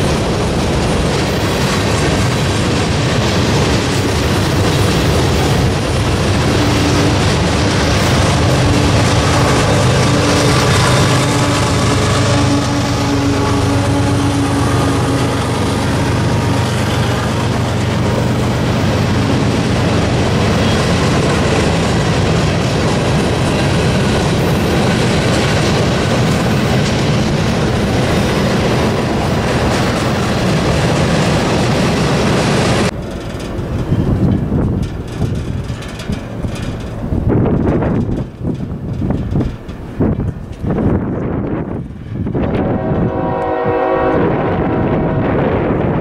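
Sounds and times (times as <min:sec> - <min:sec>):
wheels clickety-clack: 0:00.0 - 0:43.1
locomotive engine hum: 0:00.0 - 0:46.0
train wheels on rails: 0:00.0 - 0:46.0
wind on microphone: 0:00.0 - 0:46.0.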